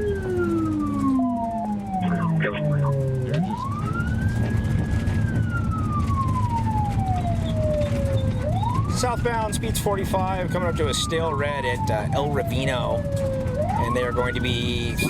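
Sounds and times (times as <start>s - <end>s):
engine and road noise: 0.0s - 15.0s
police siren wailing: 0.0s - 15.0s.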